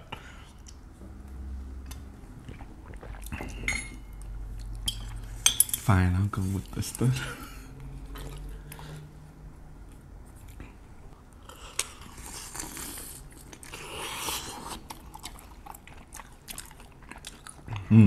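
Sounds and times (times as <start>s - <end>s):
people chewing food: 0.0s - 5.4s, 6.3s - 18.0s.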